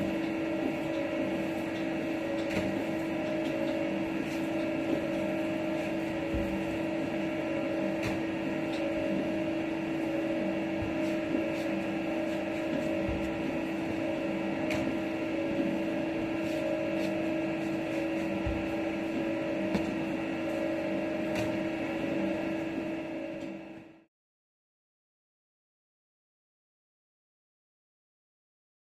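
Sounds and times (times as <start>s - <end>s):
machinery hum: 0.0s - 24.1s.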